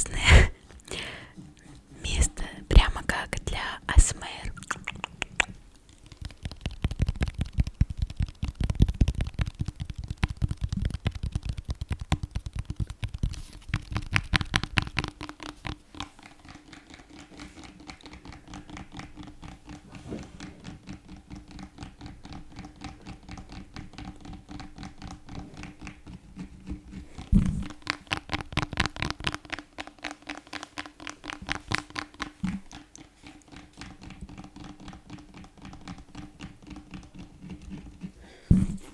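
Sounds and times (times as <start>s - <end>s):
fast tapping and scratching: 0.0s - 38.9s.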